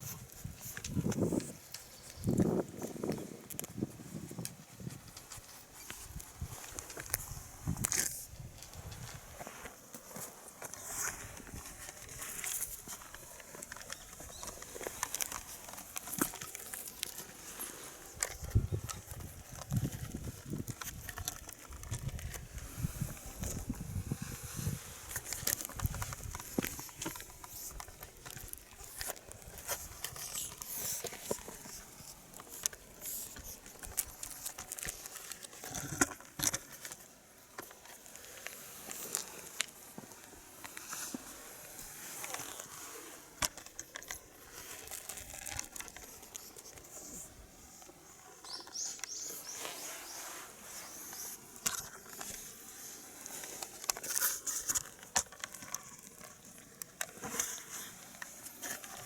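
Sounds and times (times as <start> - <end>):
small paws pattering and scuffing: 0.0 - 59.0.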